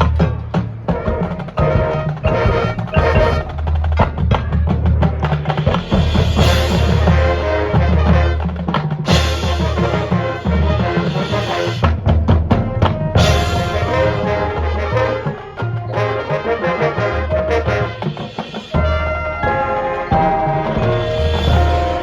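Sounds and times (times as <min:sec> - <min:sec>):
brass and wind melody: 0:00.0 - 0:22.0
snare and bass drums: 0:00.0 - 0:22.0.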